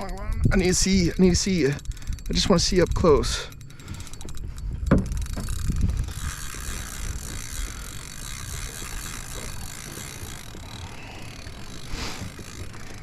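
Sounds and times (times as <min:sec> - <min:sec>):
fishing reel ticking rapidly: 0:00.0 - 0:13.0.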